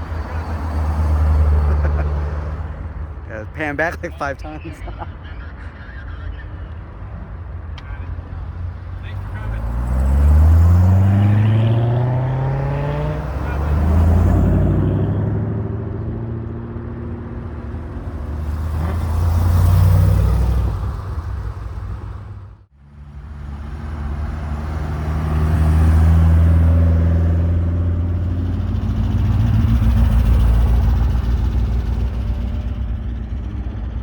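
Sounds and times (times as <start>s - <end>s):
cars driving slowly past: 0.0s - 34.0s.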